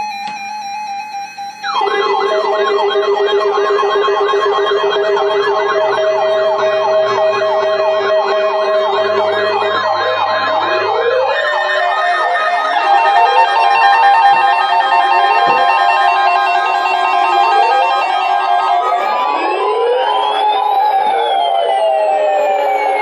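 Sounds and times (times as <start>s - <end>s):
electronic siren yelping: 0.0s - 23.0s
steady held tones: 0.0s - 23.0s
slow rising siren wail: 1.5s - 23.0s.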